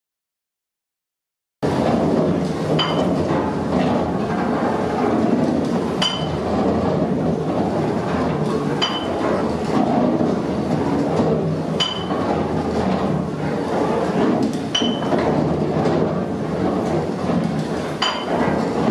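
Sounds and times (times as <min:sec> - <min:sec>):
gear wheels rumbling clatter: 0:01.6 - 0:18.9.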